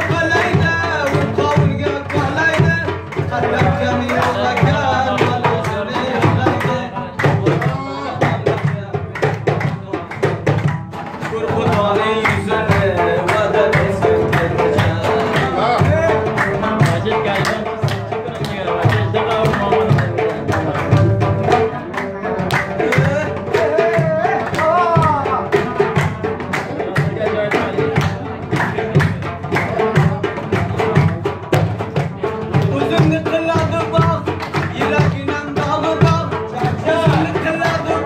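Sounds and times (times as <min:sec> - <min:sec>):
frame drum beat: 0:00.0 - 0:38.0.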